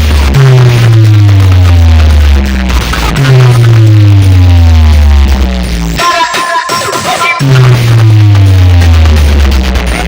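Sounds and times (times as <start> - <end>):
heavy sustained bass: 0.0 - 6.0, 7.4 - 10.0
electronic dance music: 0.0 - 10.0.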